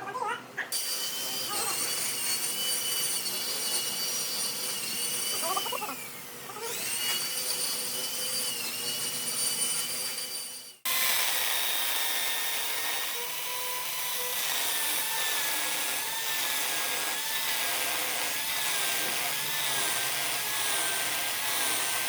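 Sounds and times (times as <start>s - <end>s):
electric power tool whining: 0.8s - 22.0s.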